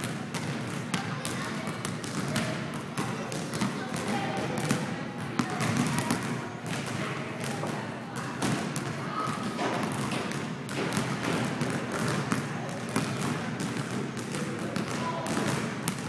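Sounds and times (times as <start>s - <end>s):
basketball bouncing on gym floor: 0.0s - 16.0s.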